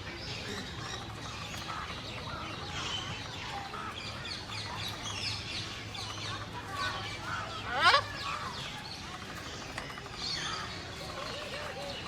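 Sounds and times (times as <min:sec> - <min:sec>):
many birds chirping: 0:00.0 - 0:12.0.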